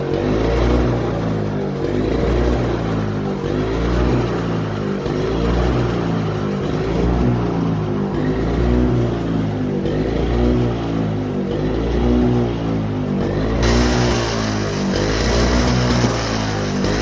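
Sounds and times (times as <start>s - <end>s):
snowblower engine revving: 0.0s - 17.0s.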